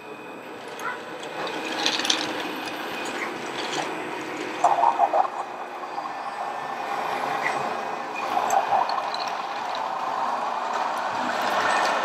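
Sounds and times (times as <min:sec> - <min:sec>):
toy truck motors humming: 0:00.0 - 0:12.0.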